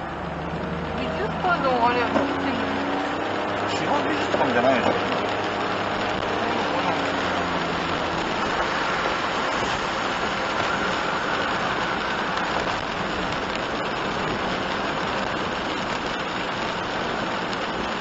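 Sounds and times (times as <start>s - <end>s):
rain hitting windshield: 0.0s - 18.0s
tyres hissing on wet road: 0.0s - 18.0s.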